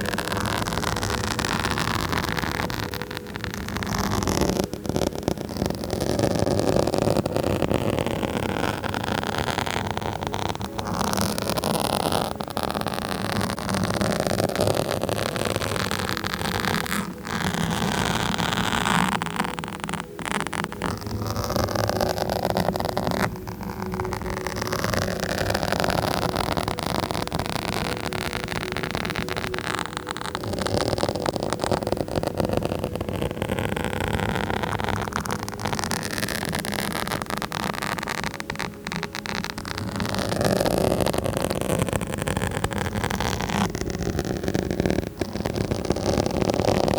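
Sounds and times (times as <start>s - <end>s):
microphone being scratched: 0.0s - 46.9s.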